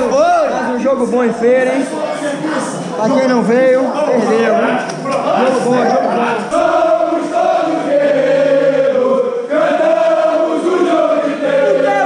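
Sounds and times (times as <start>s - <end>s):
crowd chanting in unison: 1.8s - 12.0s.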